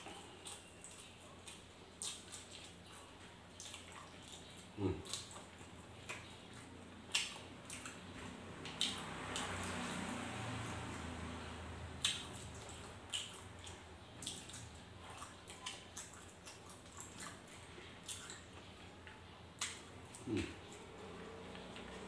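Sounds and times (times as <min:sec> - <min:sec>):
wet chewing and lip-smacking: 0:00.0 - 0:22.0.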